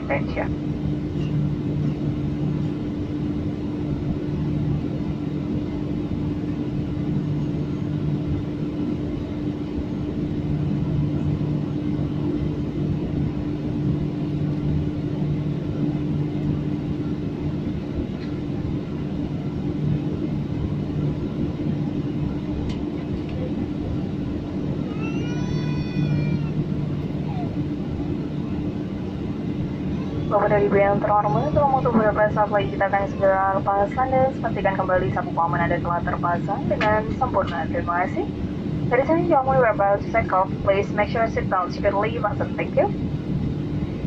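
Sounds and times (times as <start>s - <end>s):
jet engines rumbling in cabin: 0.0s - 44.0s.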